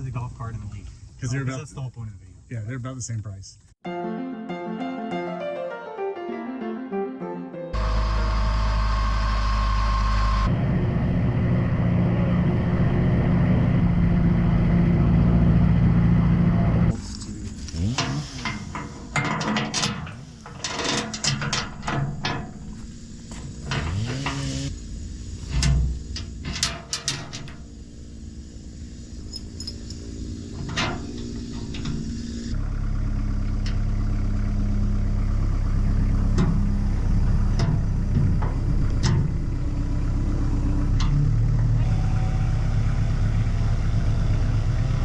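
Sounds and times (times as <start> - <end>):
vehicle engine running: 7.8 - 45.0.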